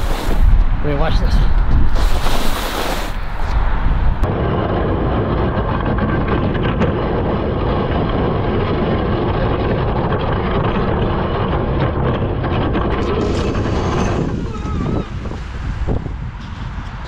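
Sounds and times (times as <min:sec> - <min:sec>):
tire spinning in deep snow: 0:00.0 - 0:17.0.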